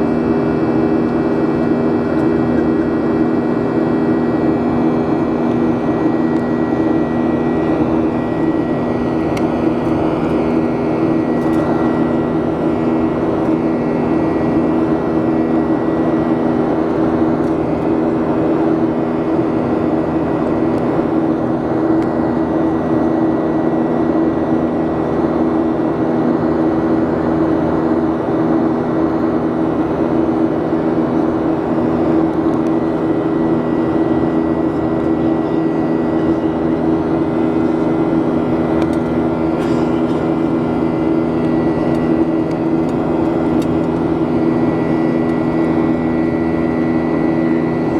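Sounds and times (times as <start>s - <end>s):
jet engine drone in cabin: 0.0s - 47.9s.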